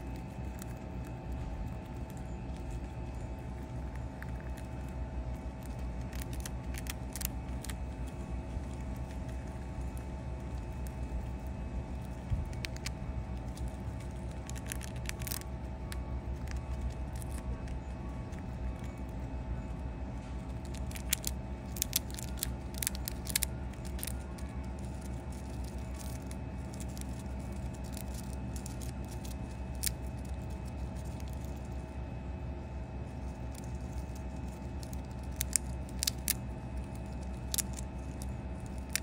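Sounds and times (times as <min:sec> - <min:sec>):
chipmunk gnawing peanut shell: 0:00.0 - 0:39.0
low mechanical hum: 0:00.0 - 0:39.0.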